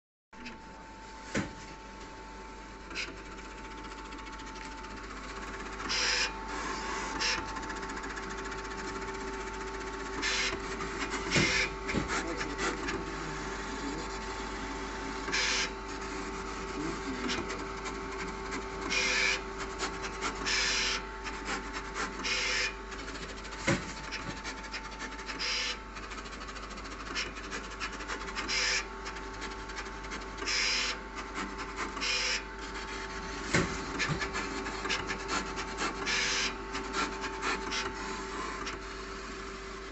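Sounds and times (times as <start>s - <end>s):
plotter motor hum: 0.4s - 39.9s
rasping bursts of plotter carriage: 2.8s - 39.2s.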